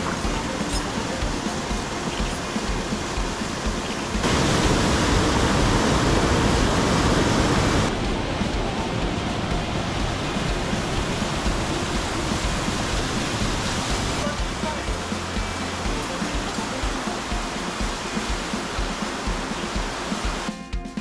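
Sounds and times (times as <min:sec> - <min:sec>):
mountain stream rushing: 0:00.0 - 0:20.5.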